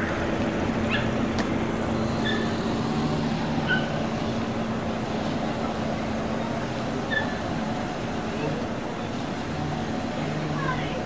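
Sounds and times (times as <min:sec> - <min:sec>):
boat engine hum: 0:00.0 - 0:11.0
wind: 0:00.0 - 0:11.0.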